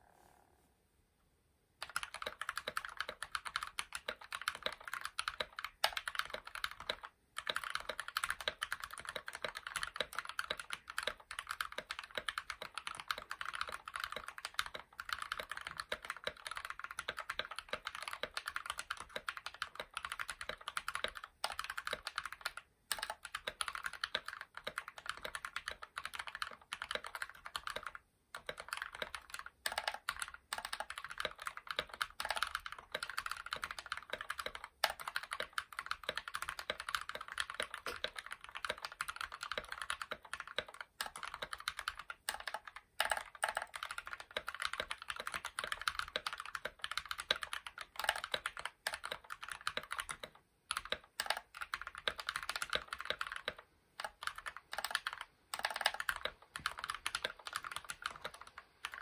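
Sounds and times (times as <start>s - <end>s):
mechanical keyboard typing: 1.8s - 59.0s.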